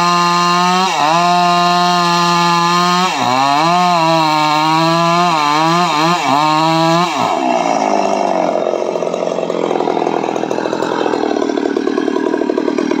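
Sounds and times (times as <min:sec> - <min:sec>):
chainsaw revving and idling: 0:00.0 - 0:13.0.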